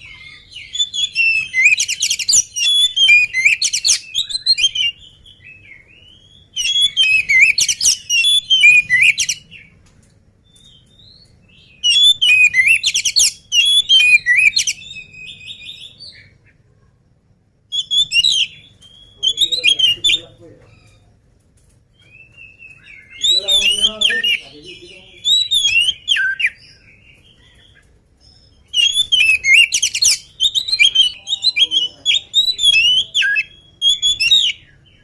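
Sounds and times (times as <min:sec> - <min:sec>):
bird singing whistles and chatter: 0:00.0 - 0:09.7, 0:10.5 - 0:16.3, 0:17.7 - 0:21.1, 0:22.0 - 0:35.0.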